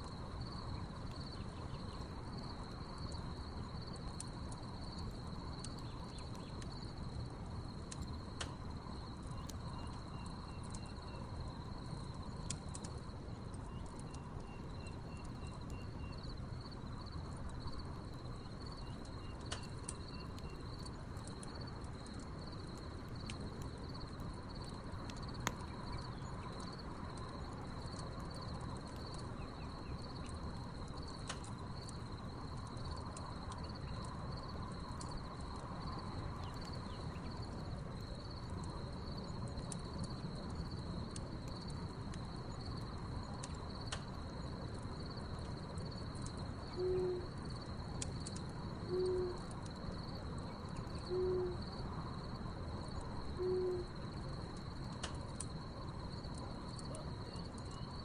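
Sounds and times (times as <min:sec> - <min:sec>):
crickets chirping: 0:00.0 - 0:58.0
wood fire crackling and popping: 0:00.0 - 0:58.0.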